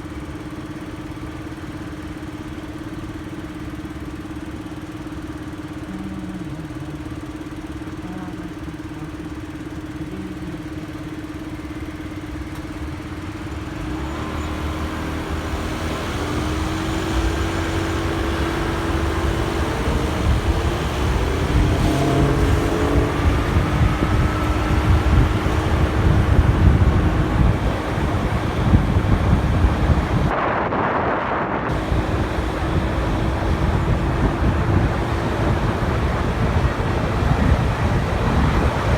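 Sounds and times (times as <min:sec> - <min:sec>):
motorcycle engine revving: 0:00.0 - 0:30.4, 0:31.6 - 0:38.9
road noise: 0:00.0 - 0:38.9.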